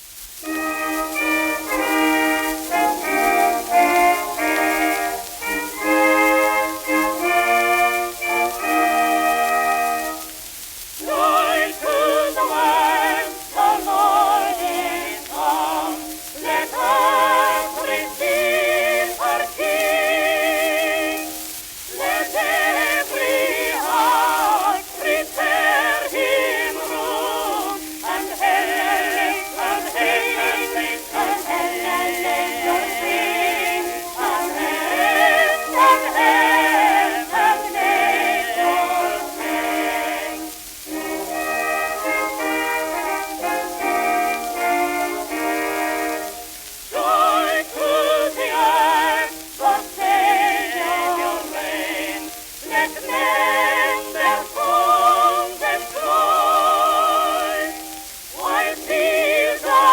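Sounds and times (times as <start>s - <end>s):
old phonograph record music: 0.0s - 59.9s
record surface hiss: 0.0s - 59.9s.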